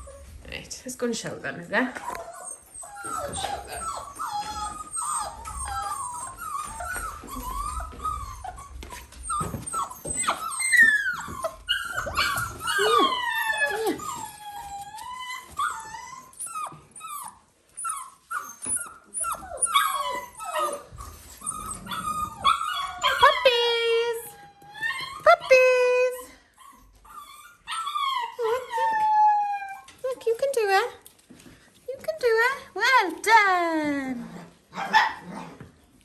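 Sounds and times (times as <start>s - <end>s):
puppies whining and yelping: 0.0s - 0.4s, 1.8s - 30.4s.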